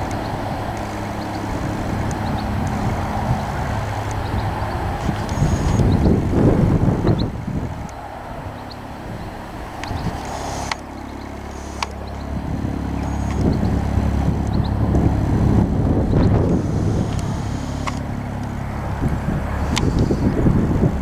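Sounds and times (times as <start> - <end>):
diesel locomotive engine drone: 0.0 - 21.0
wind buffeting microphone: 0.0 - 21.0.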